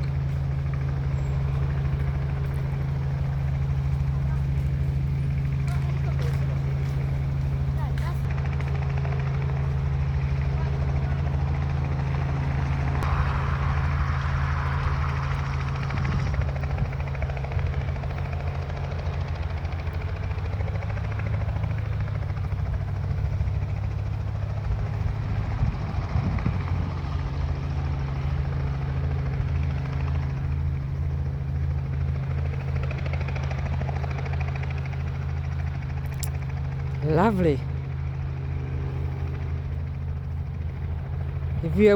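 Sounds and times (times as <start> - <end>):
helicopter engine and rotor: 0.0 - 41.9.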